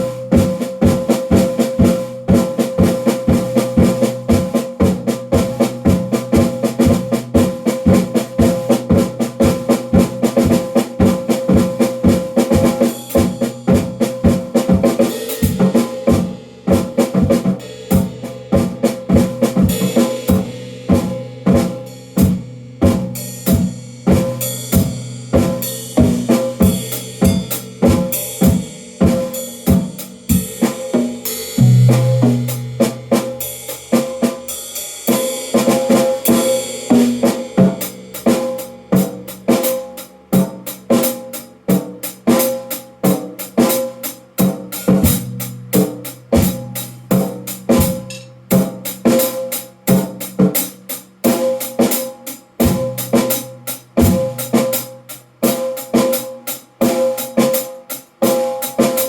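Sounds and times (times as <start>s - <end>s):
drum kit playing: 0.0s - 59.0s.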